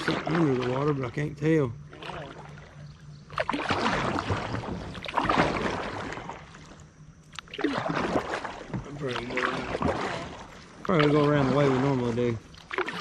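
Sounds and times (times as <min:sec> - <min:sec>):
paddle splashing in water: 0:00.0 - 0:01.2, 0:01.9 - 0:13.0.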